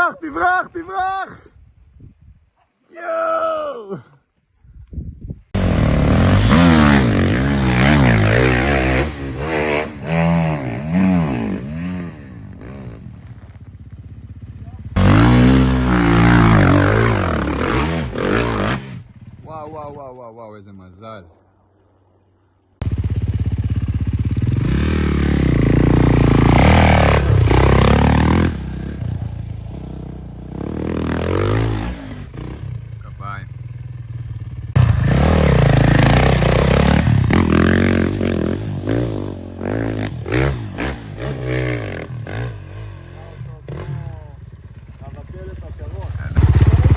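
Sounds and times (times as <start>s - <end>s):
dirt bike engine revving: 5.6s - 19.7s, 22.8s - 46.9s.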